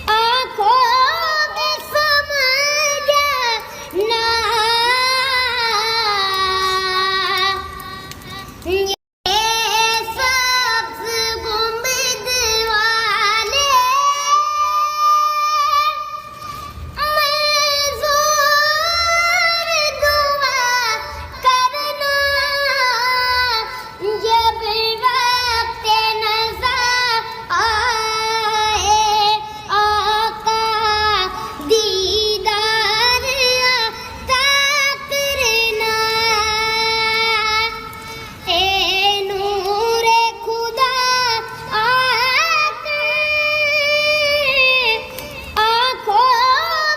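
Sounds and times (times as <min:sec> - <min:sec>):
person singing devotional song: 0:00.0 - 0:46.9.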